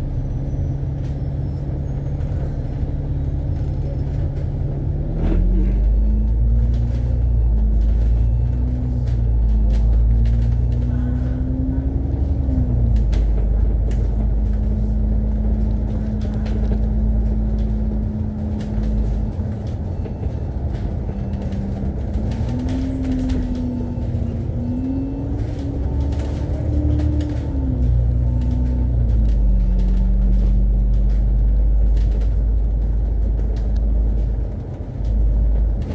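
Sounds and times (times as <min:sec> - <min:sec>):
bus engine and drivetrain: 0:00.0 - 0:35.9
steady low rumble: 0:00.0 - 0:35.9.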